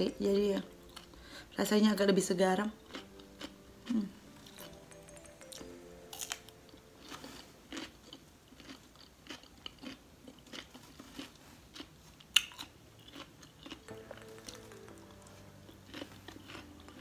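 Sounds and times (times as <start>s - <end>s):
cucumber crunching: 2.7s - 4.8s, 5.4s - 17.0s.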